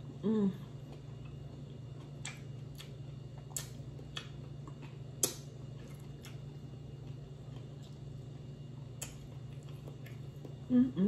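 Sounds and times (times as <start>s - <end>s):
person chewing food: 0.0s - 10.7s
steady low hum: 0.0s - 11.0s.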